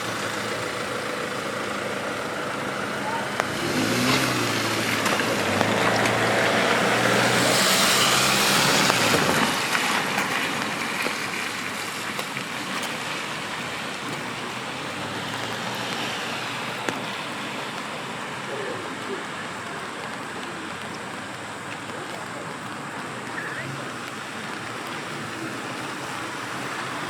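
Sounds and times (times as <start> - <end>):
car passing on wet road: 0.0 - 27.0
steady rain hiss: 0.0 - 27.0.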